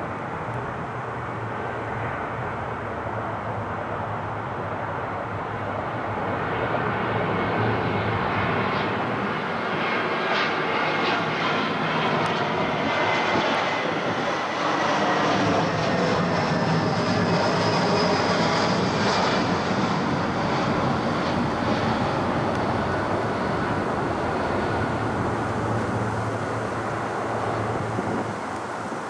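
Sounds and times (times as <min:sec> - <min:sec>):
jet engine roar with whine: 0:00.0 - 0:29.0.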